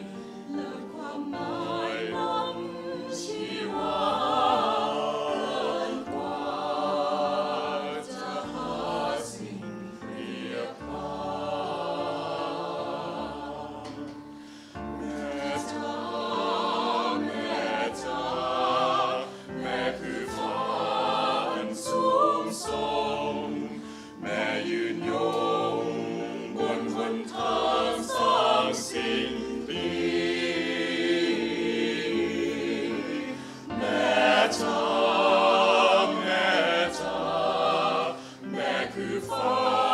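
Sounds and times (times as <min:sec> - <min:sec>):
mixed choir singing in harmony: 0:00.0 - 0:39.9.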